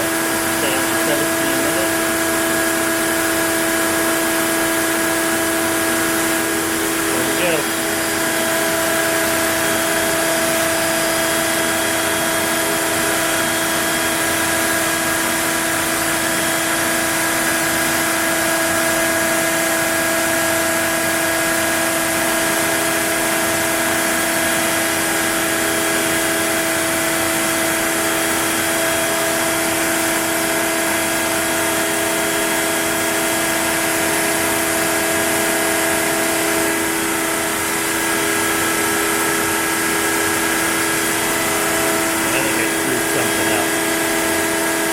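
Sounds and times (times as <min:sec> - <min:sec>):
router spindle carving wood: 0:00.0 - 0:19.0, 0:22.8 - 0:44.9.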